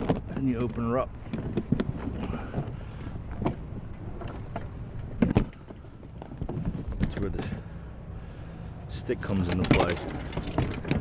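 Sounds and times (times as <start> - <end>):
knocks and clunks on boat hull: 0.0 - 7.7, 9.5 - 11.0
wind: 0.0 - 11.0.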